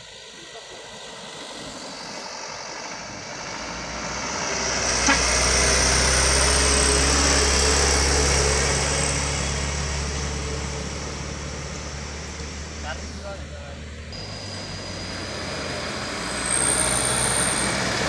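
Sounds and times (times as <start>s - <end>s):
truck passing by: 0.0s - 18.0s.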